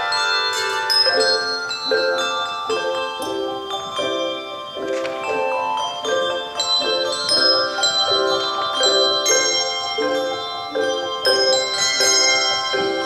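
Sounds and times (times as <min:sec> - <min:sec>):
handbell choir playing: 0:00.0 - 0:13.0.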